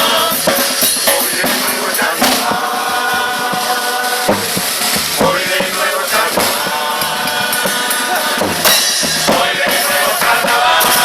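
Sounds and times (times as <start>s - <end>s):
chorus singing in unison: 0.0s - 11.0s
drums and cymbals: 0.0s - 11.0s.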